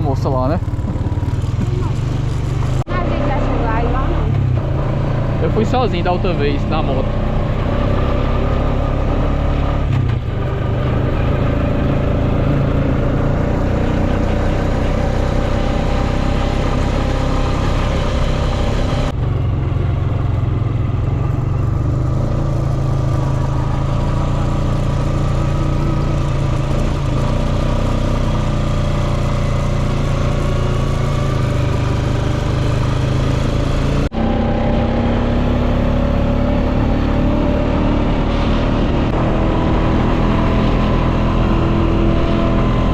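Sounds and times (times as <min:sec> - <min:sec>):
quad bike engine running: 0:00.0 - 0:42.9.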